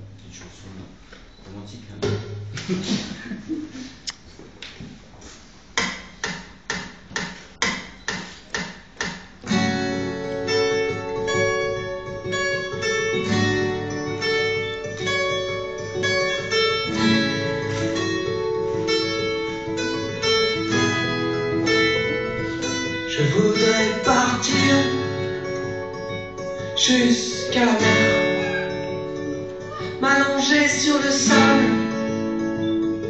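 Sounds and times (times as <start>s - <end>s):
acoustic guitars strumming: 5.9s - 33.0s.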